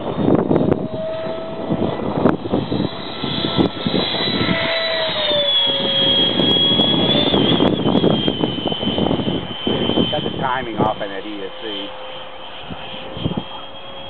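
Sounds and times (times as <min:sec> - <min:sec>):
jet model flying past whining: 0:00.0 - 0:14.0.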